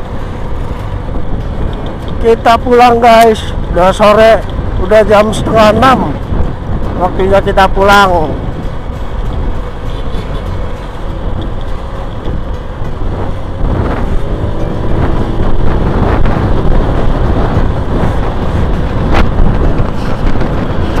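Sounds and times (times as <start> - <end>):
vehicle moving: 0.0 - 21.0
wind rumble on microphone: 0.0 - 21.0.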